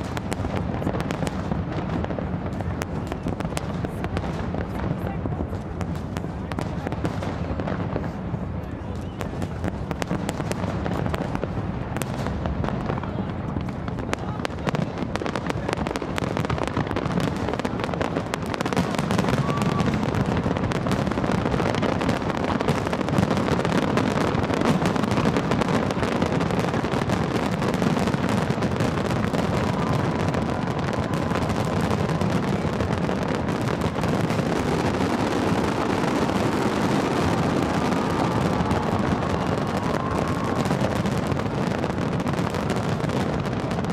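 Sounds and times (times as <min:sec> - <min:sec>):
fireworks bursting: 0:00.0 - 0:43.9.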